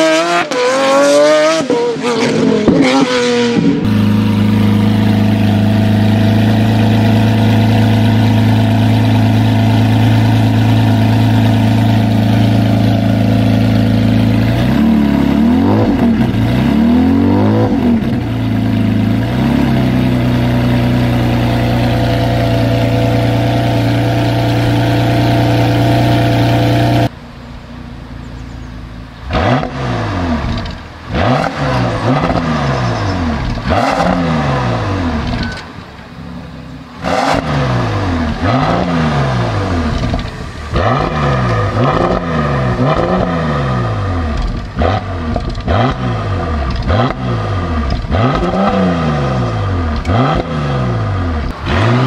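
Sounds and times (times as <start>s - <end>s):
car engine idling and revving: 0.0s - 52.0s.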